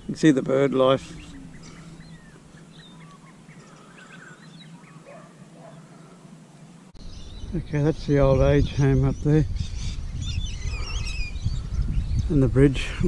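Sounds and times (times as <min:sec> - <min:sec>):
birds chirping and whistling: 0:00.0 - 0:06.2, 0:07.0 - 0:12.7.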